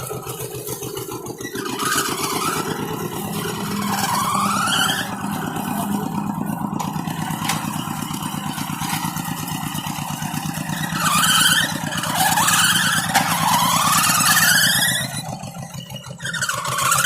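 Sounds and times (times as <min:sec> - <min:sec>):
tractor diesel engine putter: 0:00.0 - 0:17.0
high rising whines: 0:01.4 - 0:15.6.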